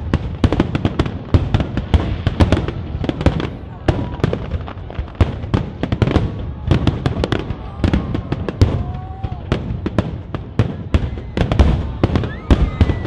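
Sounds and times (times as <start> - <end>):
fireworks booming: 0.0 - 13.0
fireworks cracking: 0.0 - 13.0.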